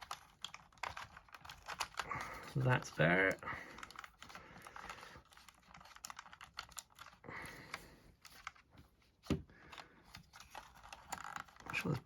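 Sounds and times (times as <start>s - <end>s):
small plastic parts clicking: 0.0s - 12.0s.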